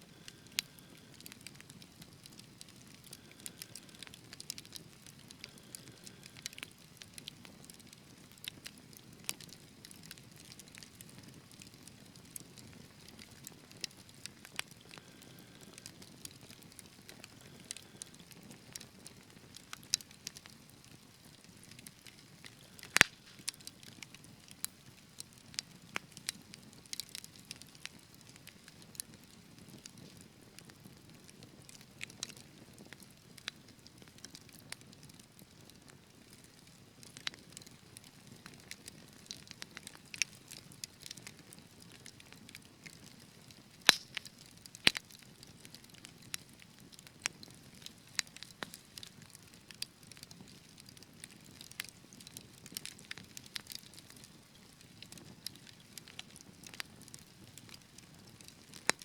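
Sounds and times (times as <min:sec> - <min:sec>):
flames rumbling softly: 0:00.0 - 0:59.0
wood fire crackling: 0:00.0 - 0:59.0.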